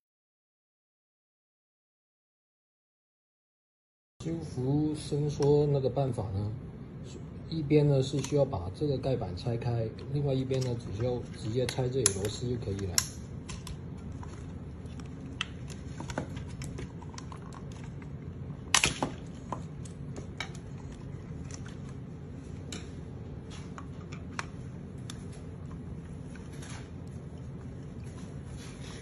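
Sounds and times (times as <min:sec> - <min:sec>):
low steady hum: 0:04.2 - 0:29.0.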